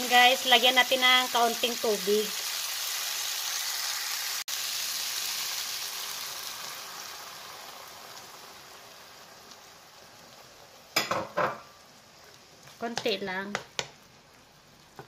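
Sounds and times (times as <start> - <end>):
vegetables sizzling in frying pan: 0.0 - 15.0.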